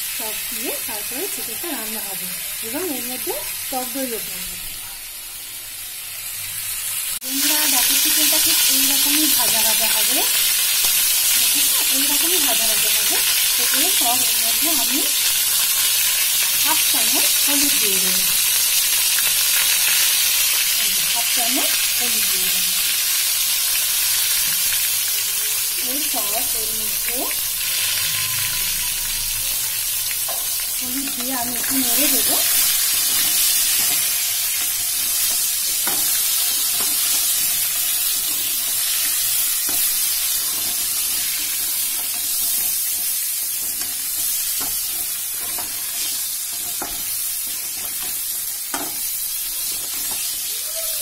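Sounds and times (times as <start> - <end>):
chicken frying in hot oil: 0.0 - 51.0.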